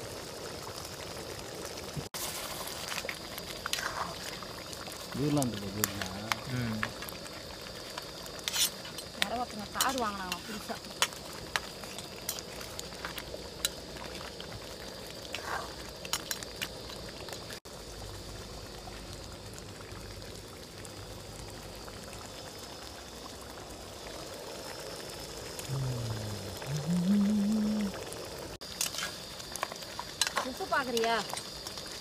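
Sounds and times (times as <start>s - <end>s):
curry bubbling hiss: 0.0s - 32.0s.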